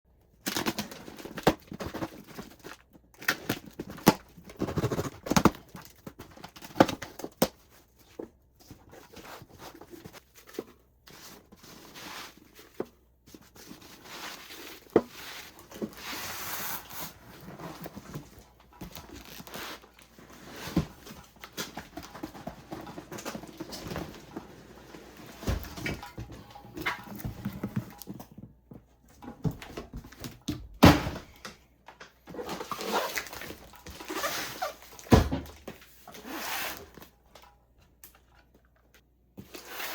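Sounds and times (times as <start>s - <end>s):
cardboard and wrapping rustling: 0.4s - 31.3s, 32.0s - 37.5s.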